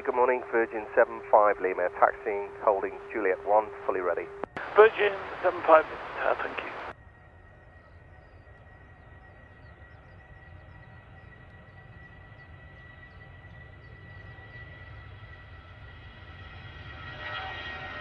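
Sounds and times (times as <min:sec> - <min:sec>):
distant jet engines rumbling: 0:00.0 - 0:17.2.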